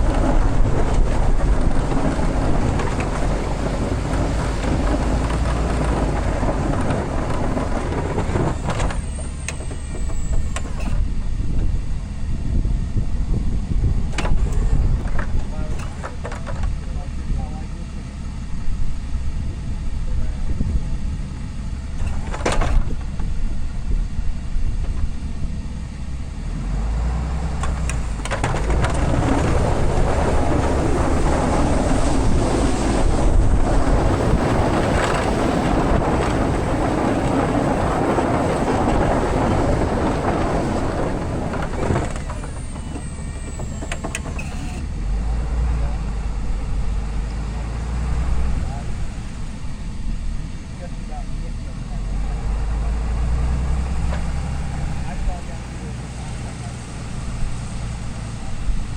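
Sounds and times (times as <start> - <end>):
pickup truck engine rumble: 0.0 - 58.9
rough noisy wash: 0.0 - 58.9.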